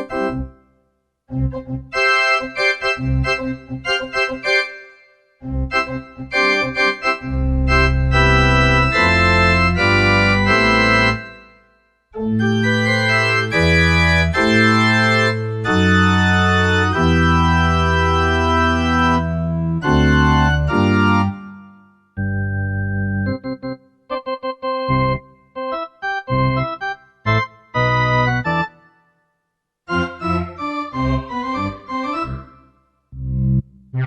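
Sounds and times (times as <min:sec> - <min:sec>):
electronic keyboard organ tone: 0:01.3 - 0:28.9.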